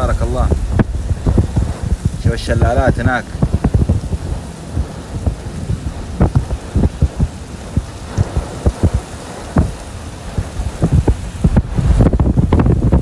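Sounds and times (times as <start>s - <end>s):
raindrops thumping on microphone: 0.0s - 13.0s
wind on microphone: 0.0s - 13.0s.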